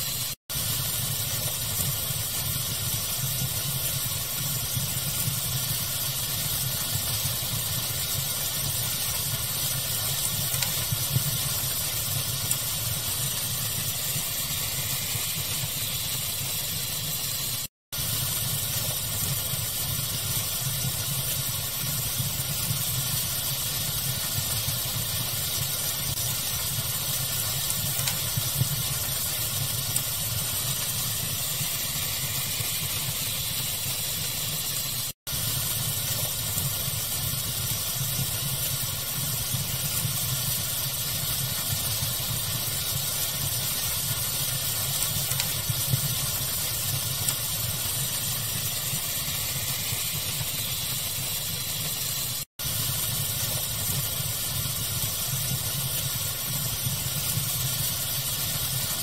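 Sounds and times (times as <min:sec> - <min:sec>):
fire crackling: 0:00.0 - 0:59.0
pink noise hiss: 0:00.0 - 0:59.0.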